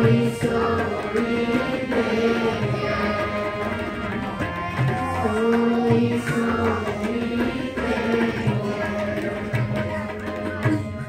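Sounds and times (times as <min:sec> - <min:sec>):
children singing: 0:00.0 - 0:11.0
harmonium: 0:00.0 - 0:11.0
tabla strokes: 0:00.0 - 0:11.0.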